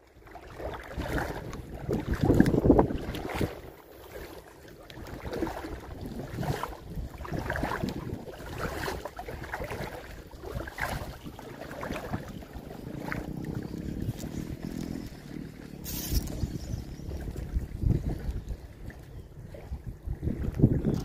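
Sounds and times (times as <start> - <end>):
water lapping at shore: 0.0 - 21.0
gusty wind on microphone: 0.5 - 3.8, 5.0 - 21.0.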